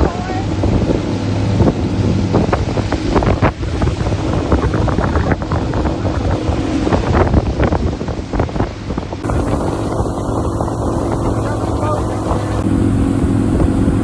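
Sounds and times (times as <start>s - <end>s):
boat engine running: 0.0s - 14.0s
water splashing against hull: 0.0s - 14.0s
wind buffeting microphone: 0.0s - 14.0s.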